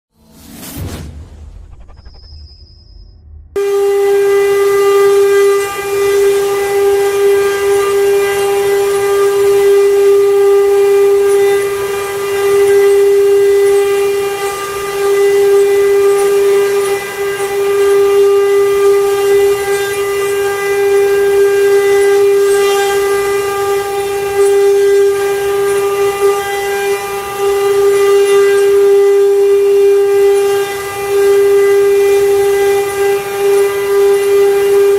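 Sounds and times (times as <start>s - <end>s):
router spindle high whine: 1.8s - 34.9s
cutter working wood: 3.6s - 34.9s.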